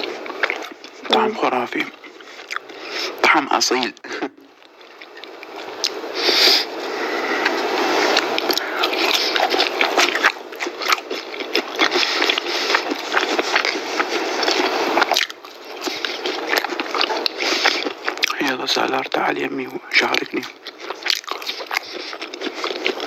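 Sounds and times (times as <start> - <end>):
crunching fried chicken: 0.0 - 23.0.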